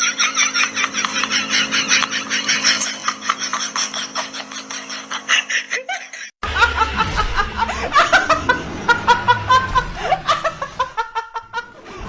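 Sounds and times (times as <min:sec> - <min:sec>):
person laughing hard: 0:00.0 - 0:12.0.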